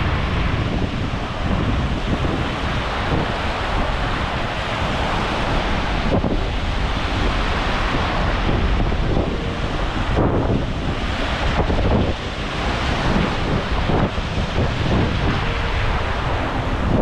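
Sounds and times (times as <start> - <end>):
rushing surf: 0.0 - 17.0
wind buffeting microphone: 0.0 - 17.0.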